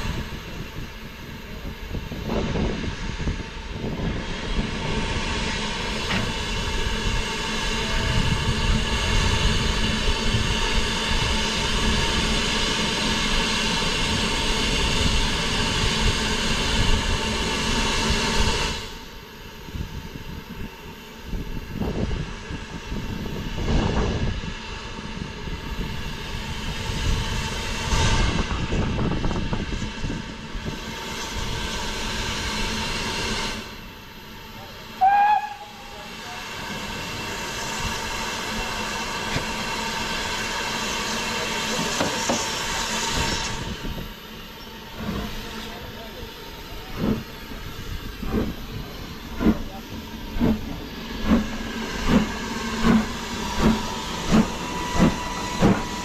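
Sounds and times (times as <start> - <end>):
steam locomotive hissing steam: 0.0 - 56.0.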